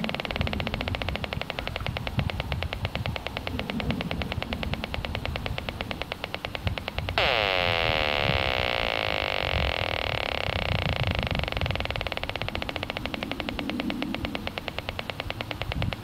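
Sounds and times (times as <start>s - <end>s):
buzzing tone sliding down: 0.0s - 16.0s
fast electronic ticking: 0.0s - 16.0s.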